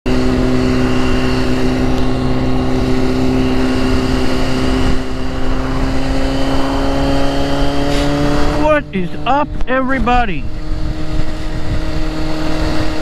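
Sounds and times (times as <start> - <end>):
motorcycle engine cruising: 0.1 - 13.0.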